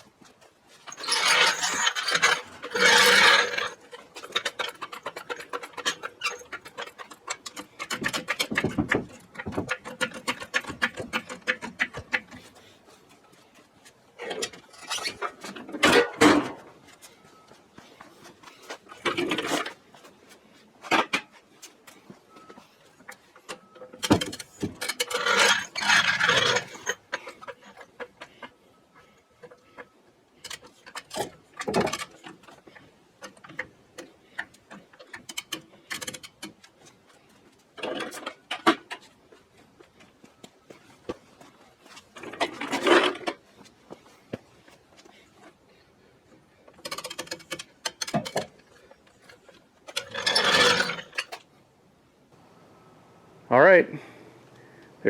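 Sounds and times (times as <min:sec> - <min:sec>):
hand tools clicking and ratcheting: 0:00.8 - 0:19.8, 0:22.9 - 0:44.0, 0:46.6 - 0:51.5.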